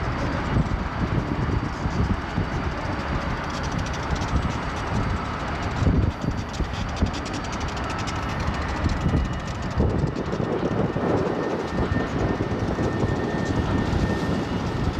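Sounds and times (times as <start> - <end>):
steel wheels rumbling on rail: 0.0 - 14.9.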